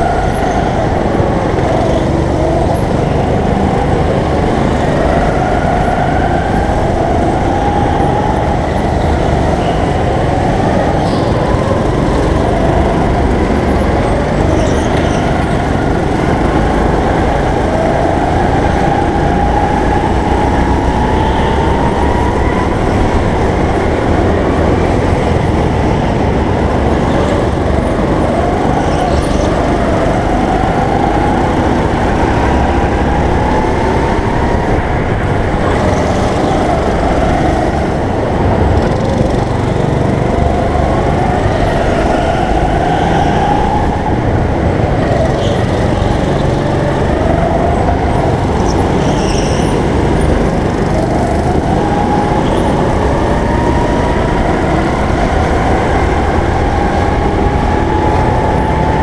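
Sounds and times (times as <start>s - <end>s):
go-kart engine accelerating: 0.0s - 59.0s
rumble of vibration and road noise: 0.0s - 59.0s.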